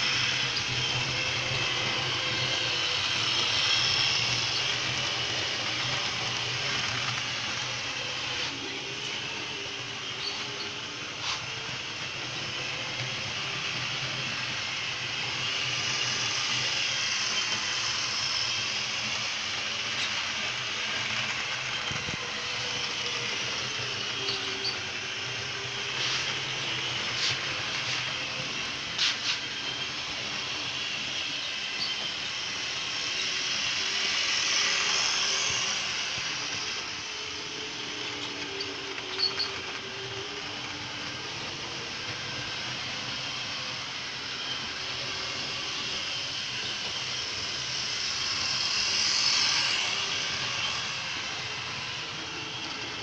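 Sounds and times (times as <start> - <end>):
model train whirring on track: 0.0 - 53.0.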